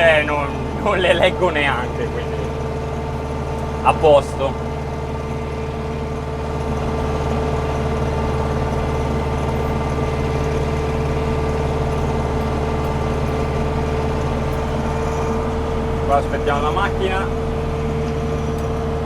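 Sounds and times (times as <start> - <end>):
steady whine: 0.0 - 19.0
tractor diesel engine running: 0.0 - 19.0.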